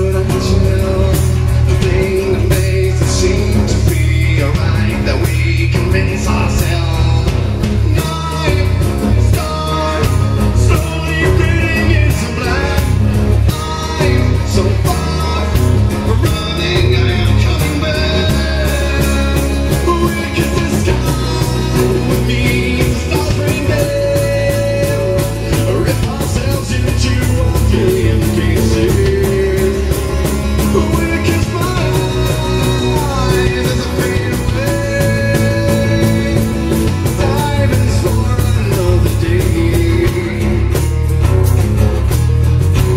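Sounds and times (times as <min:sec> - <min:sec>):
man singing into microphone: 0:00.0 - 0:40.9
acoustic guitar: 0:00.0 - 0:42.9
steady beat: 0:00.0 - 0:42.9.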